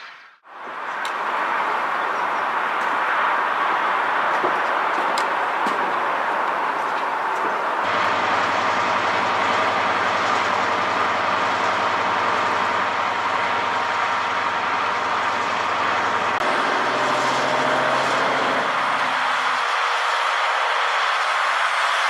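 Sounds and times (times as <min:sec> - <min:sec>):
train running: 0:00.0 - 0:22.0.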